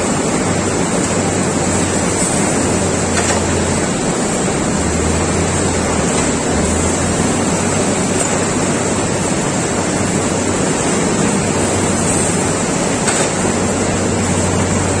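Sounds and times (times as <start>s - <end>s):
conveyor machinery hum: 0.0s - 15.0s.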